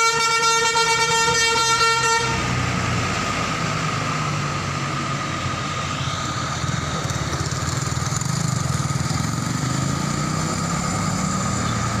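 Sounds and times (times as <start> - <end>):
diesel engine running: 0.7 - 12.0.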